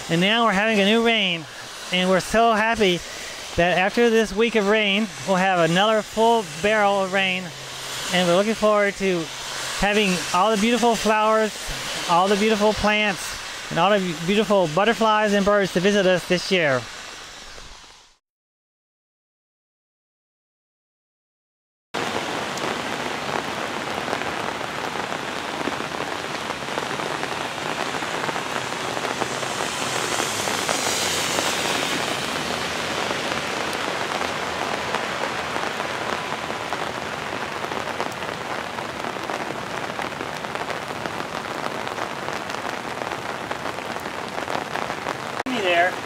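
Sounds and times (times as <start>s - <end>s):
rainwater running off pavement: 0.0s - 18.2s, 22.0s - 46.0s
steady rain falling: 0.0s - 18.2s, 22.0s - 46.0s.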